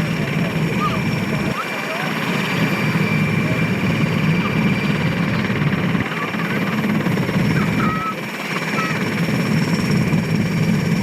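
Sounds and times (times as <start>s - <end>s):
helicopter turbine whine: 0.0s - 11.0s
pulsing rotor beat: 0.0s - 11.0s.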